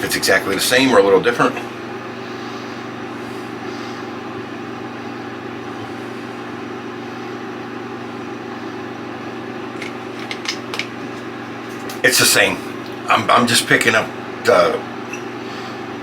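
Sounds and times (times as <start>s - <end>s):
machine hum with hiss: 1.6s - 16.0s.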